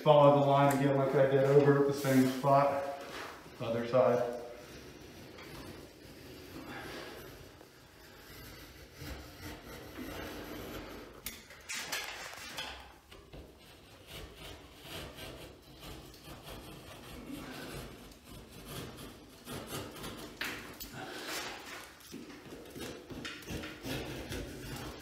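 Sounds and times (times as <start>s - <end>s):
knife blade scraping drywall: 0.2s - 25.0s.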